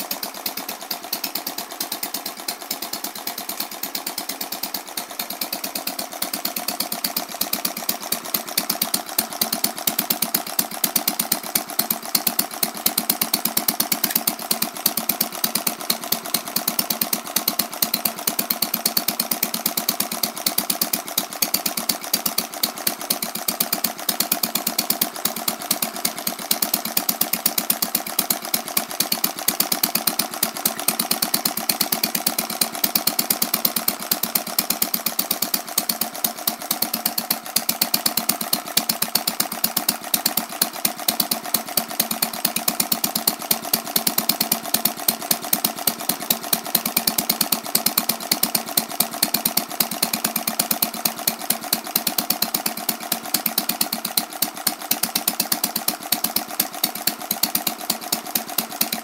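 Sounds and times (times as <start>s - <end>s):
model engine running: 0.0s - 59.0s.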